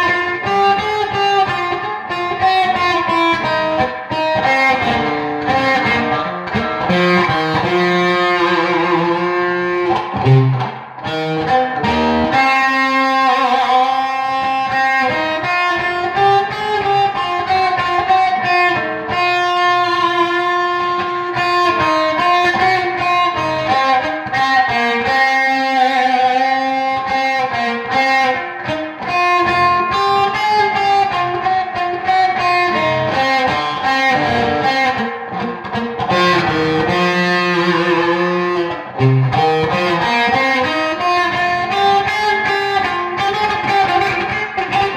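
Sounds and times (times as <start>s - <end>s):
guitar-led instrumental music: 0.0s - 44.9s.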